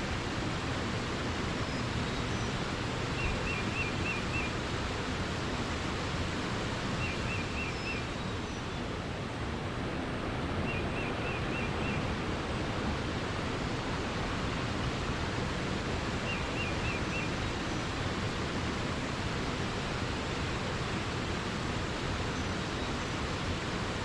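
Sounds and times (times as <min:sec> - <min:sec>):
flowing forest water: 0:00.0 - 0:24.0.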